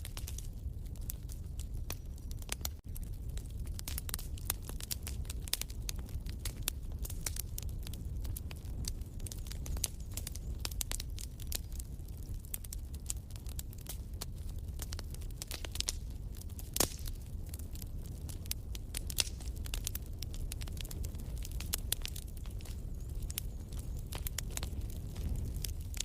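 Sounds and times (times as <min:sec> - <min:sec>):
low rumble of flames: 0:00.0 - 0:26.0
small pops of fire: 0:00.0 - 0:26.0
wood fire crackling: 0:00.0 - 0:26.0.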